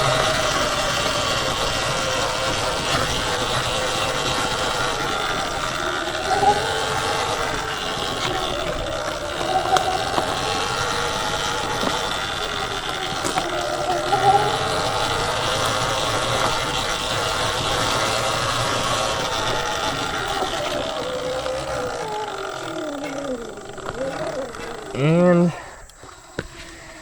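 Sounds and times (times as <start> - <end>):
electric motor whine: 0.0 - 27.0.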